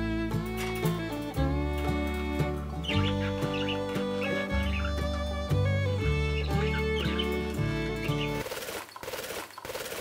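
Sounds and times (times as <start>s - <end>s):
instrumental string music: 0.0s - 8.4s.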